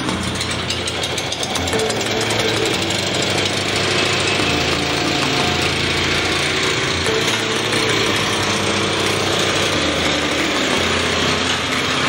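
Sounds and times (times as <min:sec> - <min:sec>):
small tiller engine running: 0:00.0 - 0:12.0.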